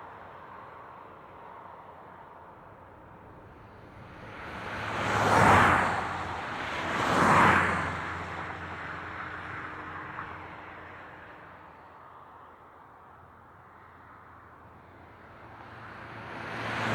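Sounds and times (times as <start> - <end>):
steady highway traffic noise: 0.0 - 16.9
vehicles passing close by: 1.2 - 11.9, 12.8 - 16.9.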